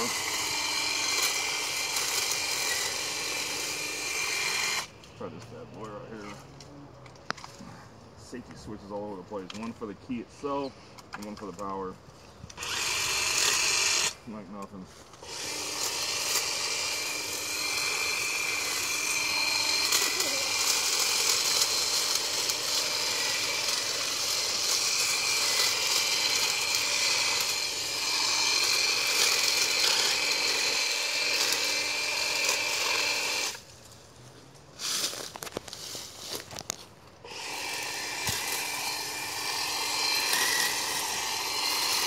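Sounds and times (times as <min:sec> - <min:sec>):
hedge trimmer cutting brush: 0:00.0 - 0:06.4, 0:12.5 - 0:33.7, 0:34.8 - 0:42.0.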